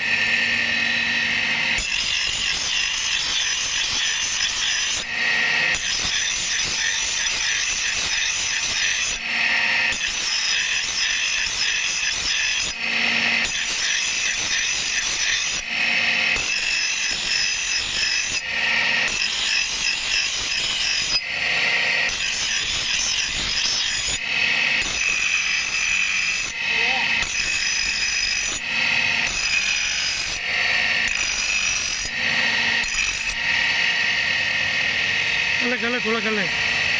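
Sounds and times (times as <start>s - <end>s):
axe blade grinding on wheel: 1.5s - 34.2s.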